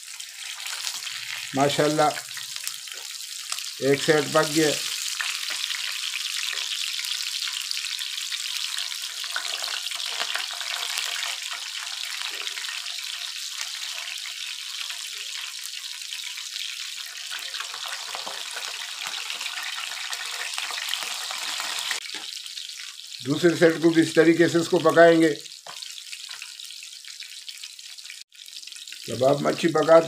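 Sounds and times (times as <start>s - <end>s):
fish sizzling in a pan: 0.0s - 30.0s.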